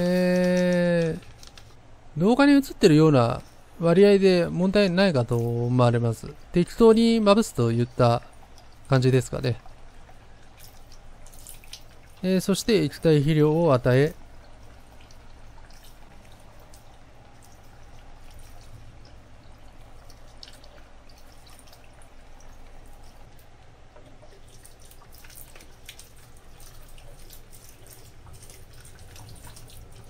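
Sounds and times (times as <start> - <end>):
small drips and splashes: 0.0 - 1.8, 4.4 - 30.0
faint low hum: 0.0 - 30.0
liquid trickling into soil: 5.2 - 30.0.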